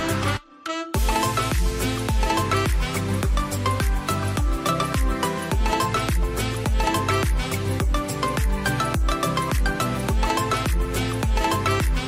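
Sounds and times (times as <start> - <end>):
upbeat music with drum beat: 1.0 - 12.0.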